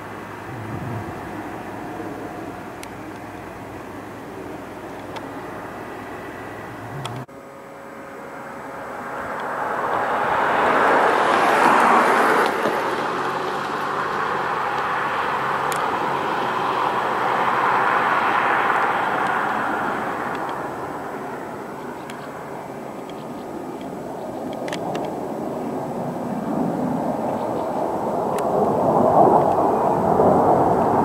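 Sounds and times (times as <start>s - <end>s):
fighter jets flying overhead: 0.0s - 7.3s, 8.0s - 31.0s.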